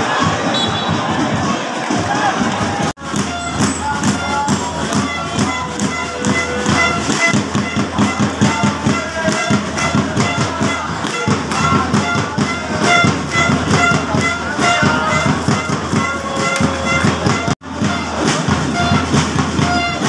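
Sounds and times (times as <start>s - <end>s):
fast drumming beat: 0.0s - 20.0s
wind instrument held notes: 3.0s - 20.0s.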